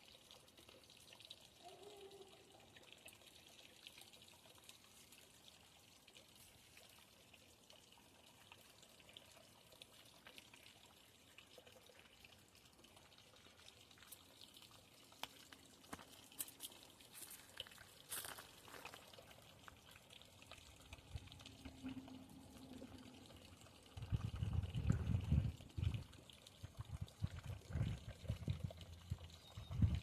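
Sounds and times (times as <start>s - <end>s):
faint trickling water: 0.0s - 30.0s.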